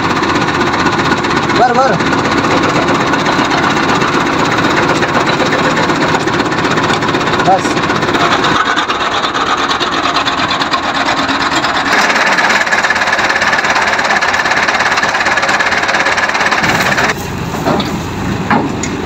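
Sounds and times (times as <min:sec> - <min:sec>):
thresher rasping whir: 0:00.0 - 0:19.0
tractor engine: 0:00.0 - 0:19.0.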